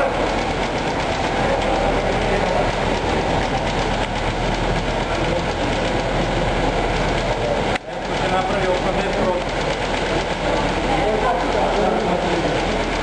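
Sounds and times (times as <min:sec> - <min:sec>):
bicycle rollers whirring: 0:00.0 - 0:13.0.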